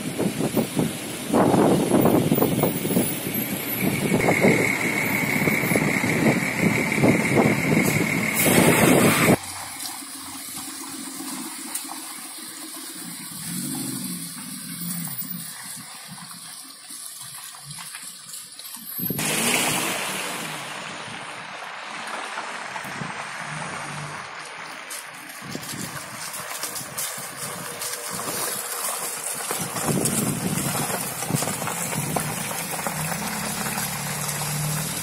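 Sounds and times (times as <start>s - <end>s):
car engines running: 0.0s - 35.0s
tyres rolling through wet slush: 0.0s - 35.0s.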